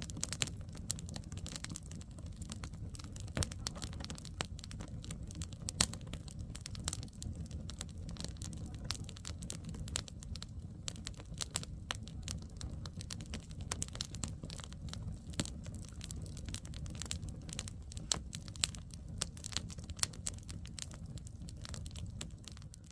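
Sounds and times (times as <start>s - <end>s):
campfire crackling and popping: 0.0s - 22.9s.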